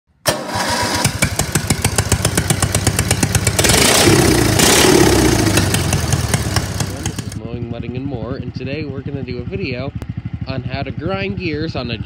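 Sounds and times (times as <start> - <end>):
small tractor engine popping: 0.3 - 12.0.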